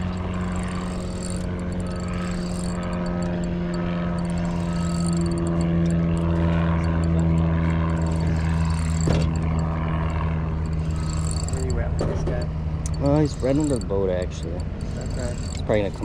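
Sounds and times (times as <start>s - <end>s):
small boat motor humming: 0.0s - 16.0s.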